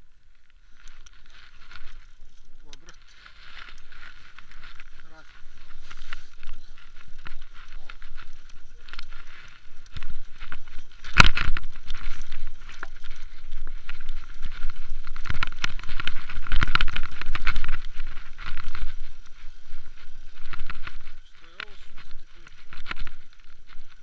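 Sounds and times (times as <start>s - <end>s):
bike rattling over rocks: 0.6s - 24.0s
wind on microphone: 3.5s - 24.0s.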